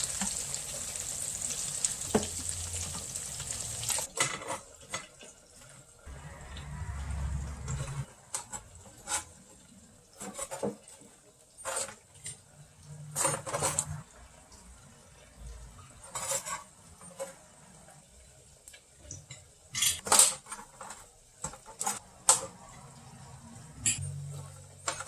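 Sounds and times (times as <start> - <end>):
utensils and dishes clattering: 0.0 - 14.2, 15.8 - 18.0, 18.9 - 25.0.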